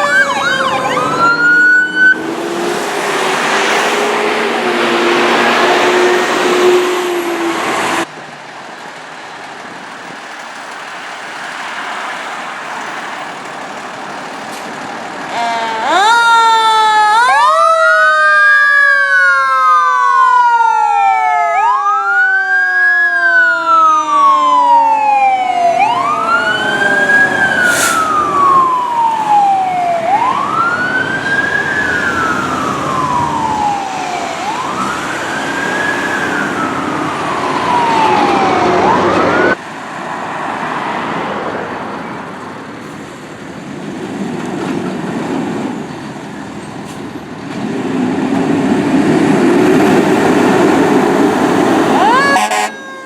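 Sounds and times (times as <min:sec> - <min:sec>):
fire truck sirens wailing: 0:00.0 - 0:08.1, 0:10.6 - 0:45.1, 0:45.7 - 0:53.0
road noise: 0:00.0 - 0:53.0.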